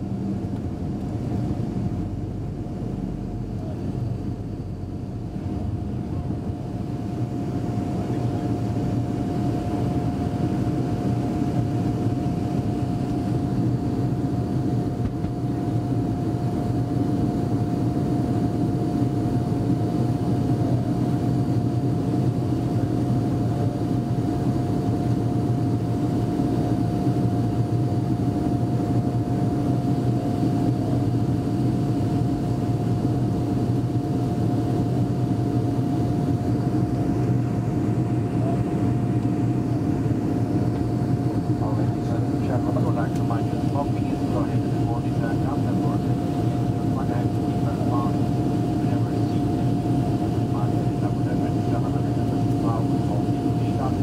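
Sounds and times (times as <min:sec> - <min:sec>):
jet engines rumbling in cabin: 0:00.0 - 0:54.0.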